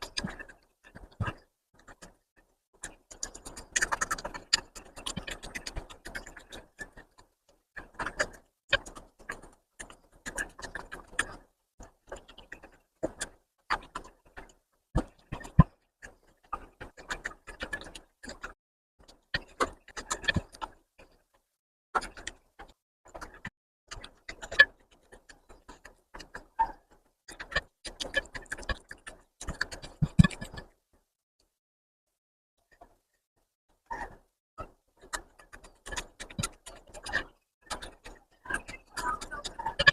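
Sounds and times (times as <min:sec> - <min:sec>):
chewing and lip-smacking: 0:02.8 - 0:21.2, 0:22.0 - 0:30.7, 0:34.0 - 0:39.9.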